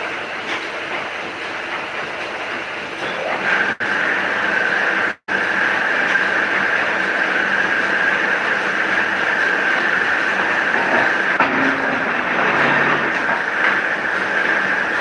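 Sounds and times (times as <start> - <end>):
paper cutting machine humming: 0.0 - 15.0
high machine whine: 2.5 - 15.0.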